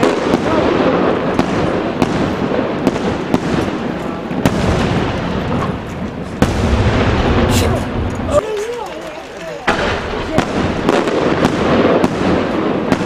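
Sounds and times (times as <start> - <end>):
firework crackle and rumble: 0.0 - 13.0
firework shells bursting: 0.0 - 13.0.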